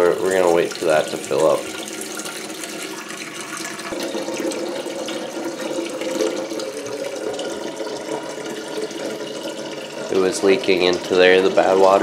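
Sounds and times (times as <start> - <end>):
tap water filling a pot: 0.0 - 12.0.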